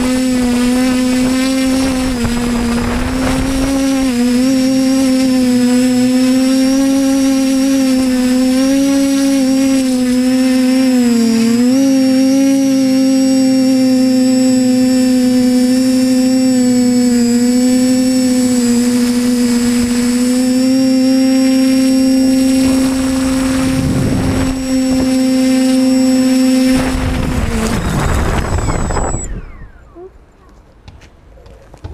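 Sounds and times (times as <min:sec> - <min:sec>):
quadcopter motors buzzing: 0:00.0 - 0:30.6.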